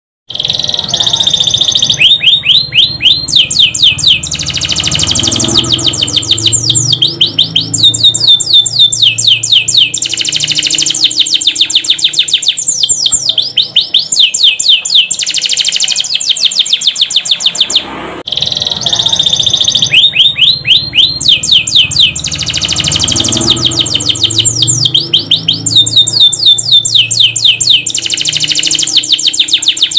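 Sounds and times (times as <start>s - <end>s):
canary singing trills: 0.3s - 29.9s.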